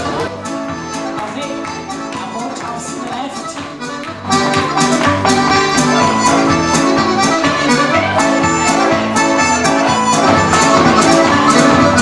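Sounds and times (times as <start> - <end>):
accordion dance tune over pa: 0.0 - 12.0.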